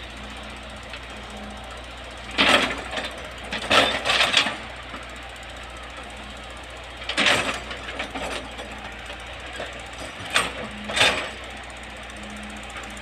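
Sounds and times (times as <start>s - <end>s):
hydraulic excavator running: 0.0s - 13.0s.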